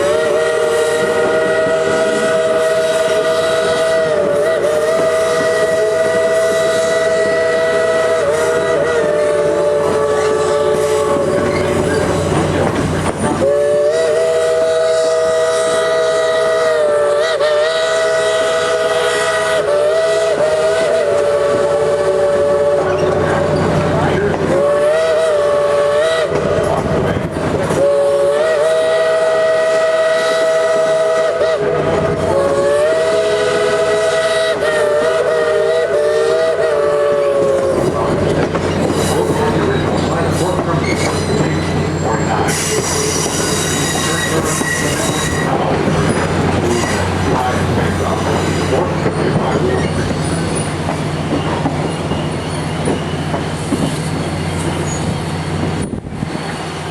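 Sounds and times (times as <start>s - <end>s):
steam locomotive whistle: 0.0s - 12.4s, 13.3s - 55.7s
train rumble and rail clatter: 0.0s - 56.9s.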